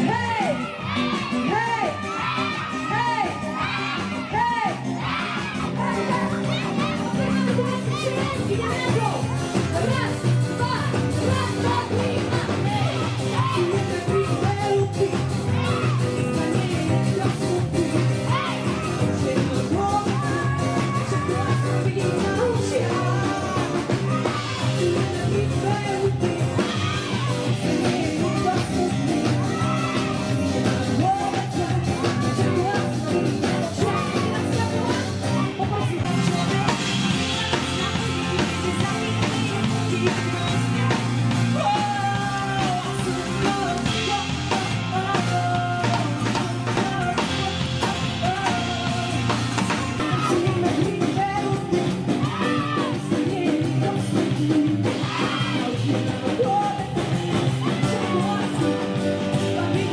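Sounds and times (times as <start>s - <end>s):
live pop-rock band: 0.0s - 59.9s
woman singing lead: 0.0s - 59.9s.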